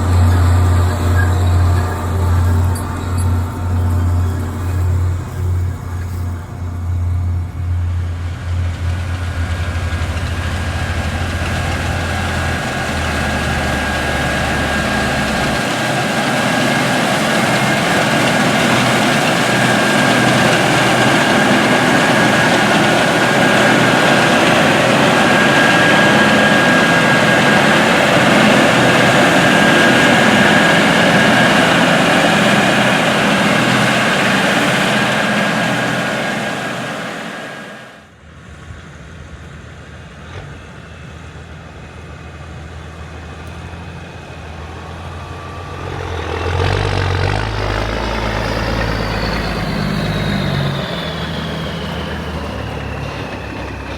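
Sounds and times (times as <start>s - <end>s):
harvest machinery droning: 0.0s - 53.9s.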